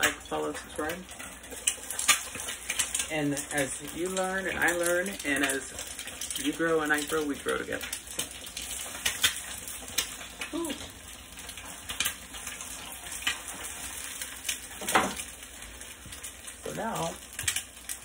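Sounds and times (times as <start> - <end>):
eggs sizzling in frying pan: 0.0 - 18.0.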